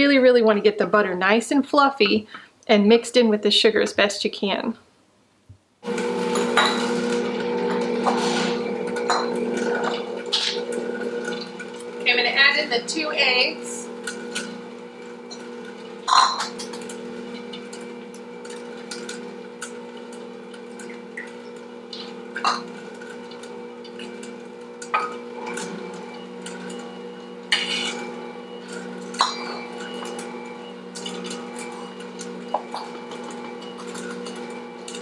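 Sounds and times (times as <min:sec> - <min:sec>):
electric mixer motor running: 0:05.8 - 0:35.0.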